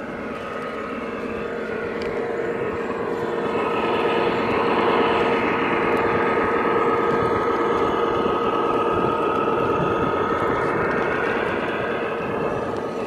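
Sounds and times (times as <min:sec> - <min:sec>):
model diesel engine drone: 0:00.0 - 0:13.0.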